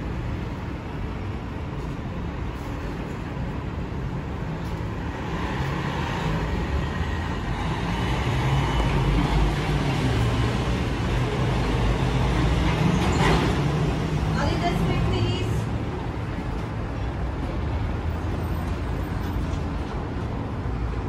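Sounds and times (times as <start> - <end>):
aerial tram rumble and hum: 0.0 - 21.0.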